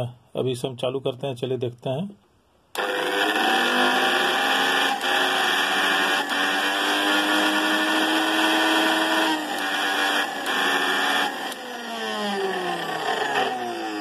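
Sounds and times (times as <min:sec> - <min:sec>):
mixer grinder motor whining: 0:02.7 - 0:14.0.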